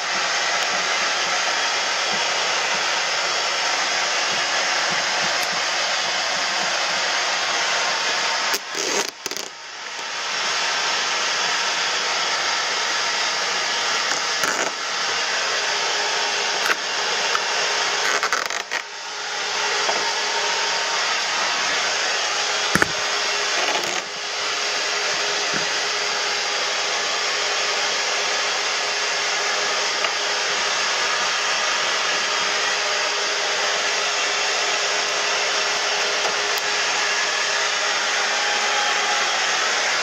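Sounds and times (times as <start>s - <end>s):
cleaning machine rushing: 0.0s - 40.0s.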